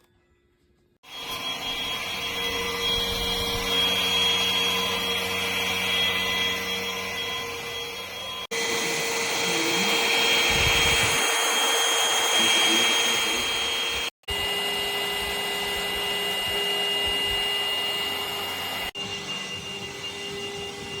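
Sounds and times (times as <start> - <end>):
vacuum cleaner motor whine: 1.0 - 21.0.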